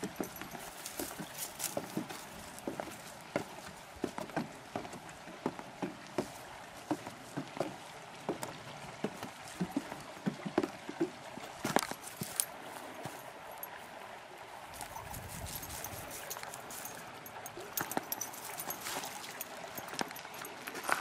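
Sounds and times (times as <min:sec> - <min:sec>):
footsteps on wooden steps: 0:00.0 - 0:13.2, 0:14.8 - 0:21.0
footsteps on dirt path: 0:00.0 - 0:14.0, 0:14.7 - 0:21.0.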